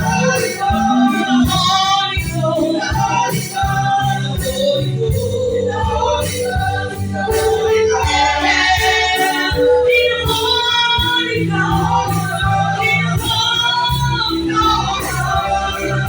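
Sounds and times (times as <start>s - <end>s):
singers holding long notes: 0.0s - 16.0s
worship band playing: 0.0s - 16.0s.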